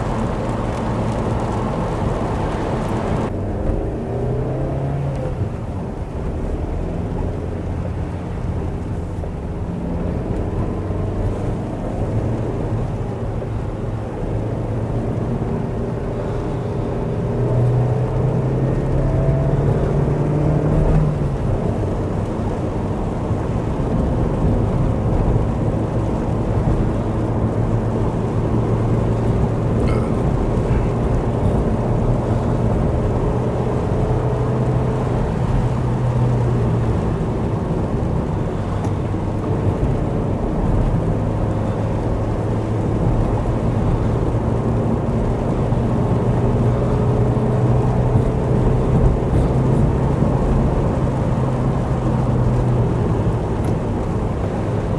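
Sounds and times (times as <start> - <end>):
car engine droning: 0.0 - 54.9
tyre noise on wet road: 0.0 - 54.9.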